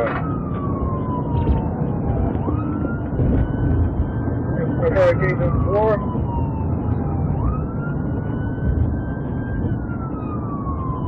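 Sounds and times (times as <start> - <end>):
engine and road rumble: 0.0 - 11.0
police siren wailing: 0.0 - 11.0.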